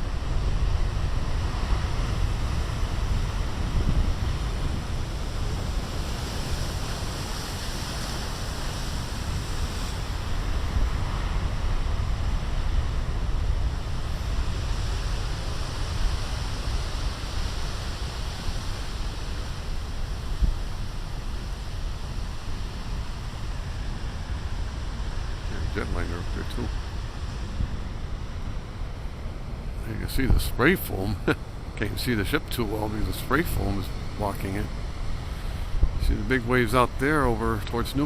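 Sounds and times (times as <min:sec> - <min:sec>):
ocean waves breaking: 0:00.0 - 0:38.0
wind buffeting microphone: 0:00.0 - 0:38.0.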